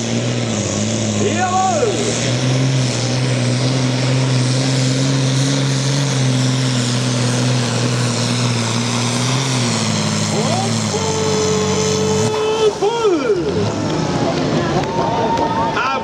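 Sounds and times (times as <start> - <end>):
tractor diesel engine at high revs: 0.0 - 16.0.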